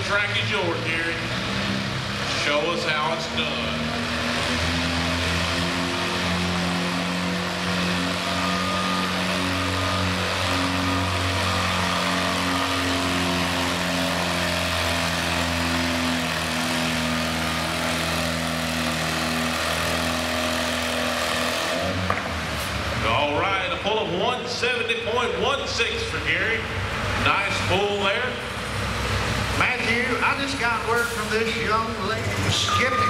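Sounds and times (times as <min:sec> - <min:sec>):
tractor engine under load: 0:00.0 - 0:33.0.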